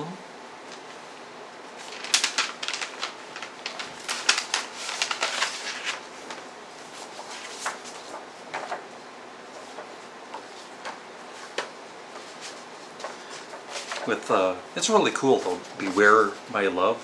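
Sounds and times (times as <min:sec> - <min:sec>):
paper and card rustling: 0:01.8 - 0:08.8, 0:09.6 - 0:16.6.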